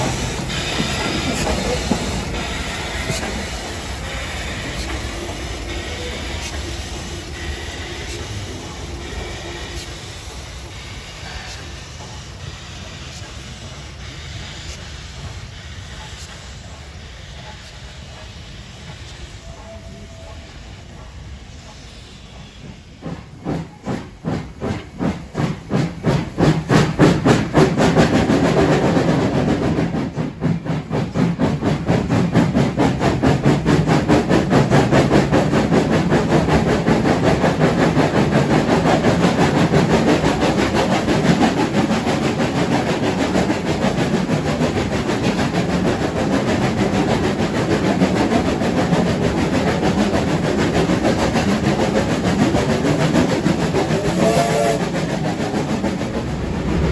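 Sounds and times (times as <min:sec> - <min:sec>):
steam hiss: 0:00.0 - 0:56.9
steam locomotive chuffing: 0:00.0 - 0:56.9.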